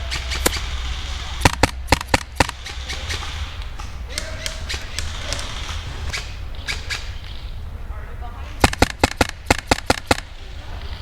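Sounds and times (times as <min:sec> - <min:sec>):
airsoft gun shots: 0:00.0 - 0:07.2, 0:08.6 - 0:10.5.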